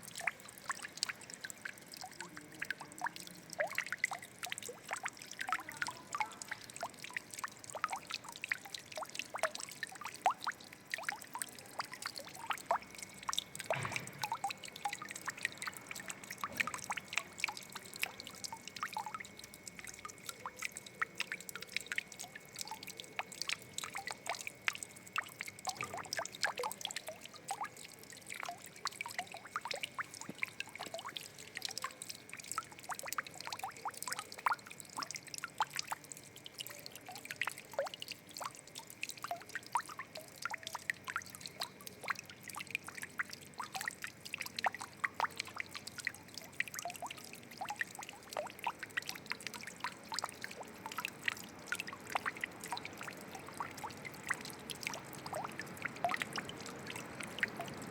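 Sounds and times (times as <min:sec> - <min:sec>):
water trickling and dripping: 0:00.0 - 0:57.9.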